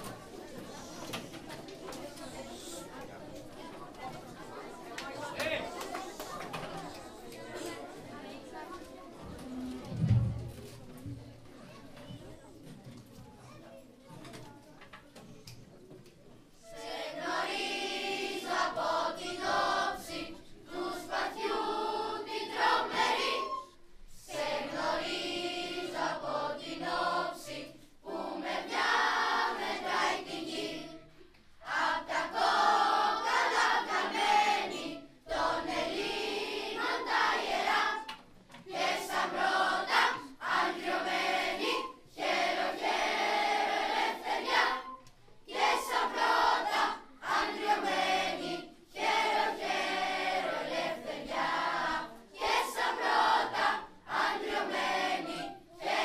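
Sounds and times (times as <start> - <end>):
children's choir singing: 0.0 - 11.2, 16.5 - 56.0.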